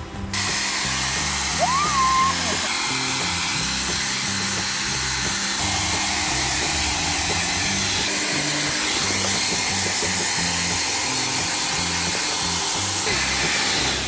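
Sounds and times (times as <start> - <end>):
background music with bass: 0.0 - 14.0
hair dryer running: 0.3 - 14.0.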